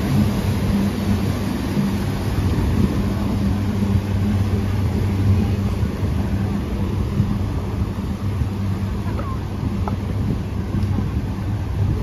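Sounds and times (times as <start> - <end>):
boat engine humming: 0.0 - 12.0
rushing boat wake: 0.0 - 12.0.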